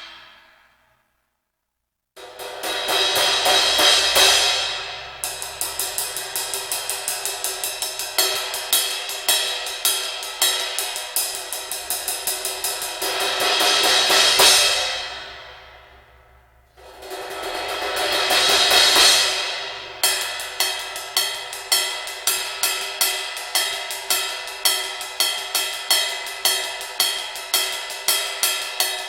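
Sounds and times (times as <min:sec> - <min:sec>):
cymbal roll: 0:00.0 - 0:00.8, 0:02.2 - 0:29.0
cymbal strokes: 0:00.0 - 0:00.9, 0:02.2 - 0:29.0.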